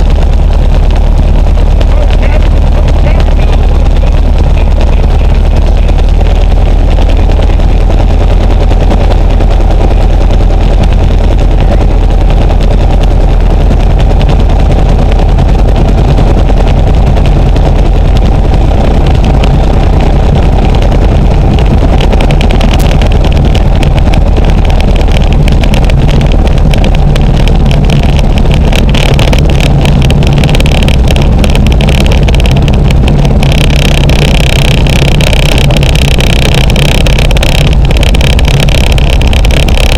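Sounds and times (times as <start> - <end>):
light aircraft engine running: 0.0 - 39.9
low hum: 0.0 - 39.9.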